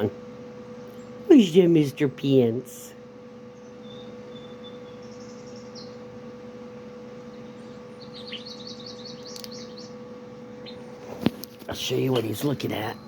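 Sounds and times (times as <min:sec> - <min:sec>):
small birds chirping: 0:00.0 - 0:13.0
steady hum: 0:00.0 - 0:13.0.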